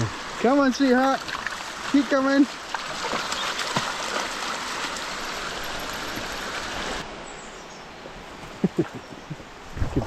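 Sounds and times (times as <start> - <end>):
stream running: 0.0 - 10.0.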